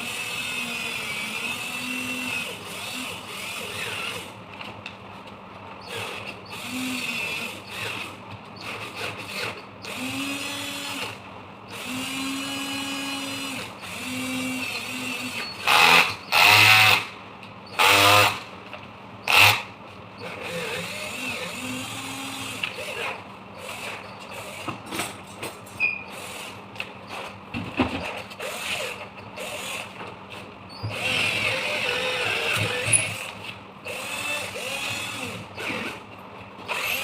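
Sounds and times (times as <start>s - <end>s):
cordless drill motor bursts: 0.0s - 4.4s, 5.8s - 18.5s, 19.2s - 24.7s, 28.4s - 30.0s, 30.8s - 36.1s, 36.7s - 37.0s.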